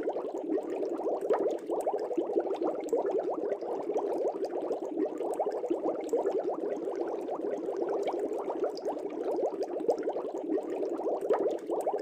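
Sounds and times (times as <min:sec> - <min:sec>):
air bubbles in aquarium water: 0:00.0 - 0:12.0.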